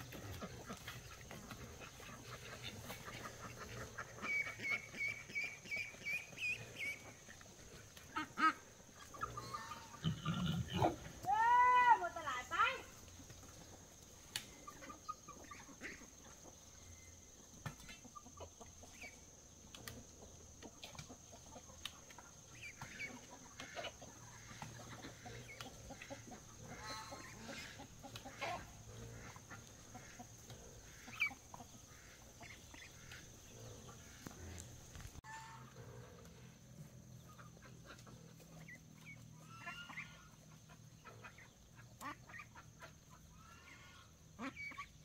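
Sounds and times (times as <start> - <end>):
chickens clucking: 0.0 - 11.3, 12.1 - 45.0.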